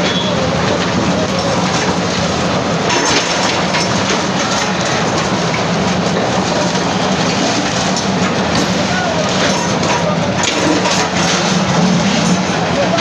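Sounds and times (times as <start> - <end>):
clanks and knocks: 0.0 - 13.0
heavy machine engine running: 0.0 - 13.0.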